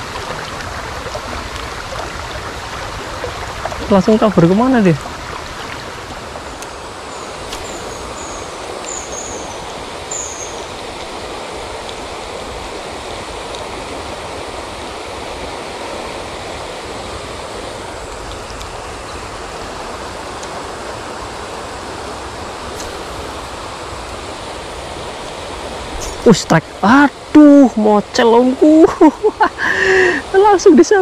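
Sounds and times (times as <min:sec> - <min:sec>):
river water rushing over gravel: 0:00.0 - 0:31.0.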